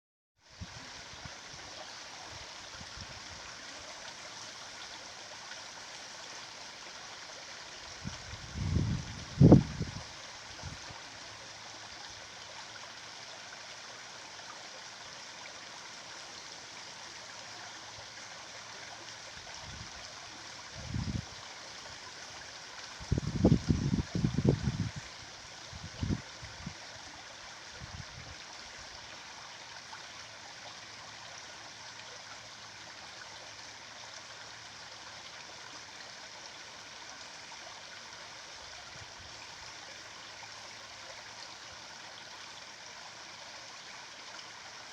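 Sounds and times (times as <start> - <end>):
stream water flowing: 0.4 - 44.9.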